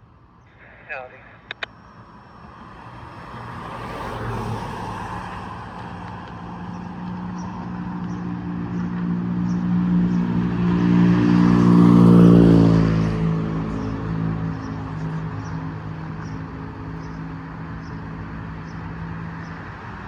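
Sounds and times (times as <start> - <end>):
vehicle engine passing by: 2.5 - 20.0.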